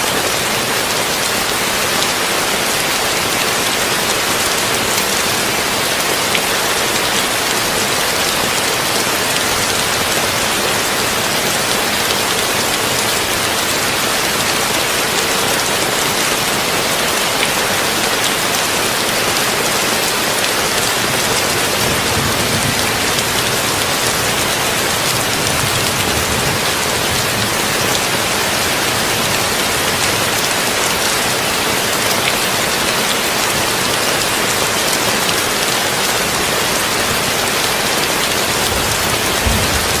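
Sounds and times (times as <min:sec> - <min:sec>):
heavy rain on a tin roof: 0:00.0 - 0:40.0.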